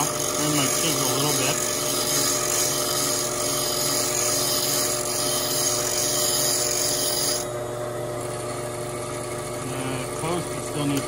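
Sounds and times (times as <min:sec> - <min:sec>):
grinder grinding steel: 0:00.0 - 0:11.0
grinder motor hum: 0:00.0 - 0:11.0.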